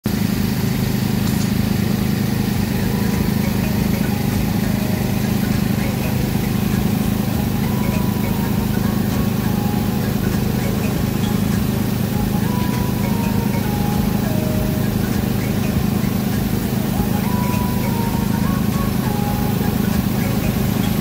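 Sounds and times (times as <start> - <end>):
excavator diesel engine humming: 0.1 - 21.0.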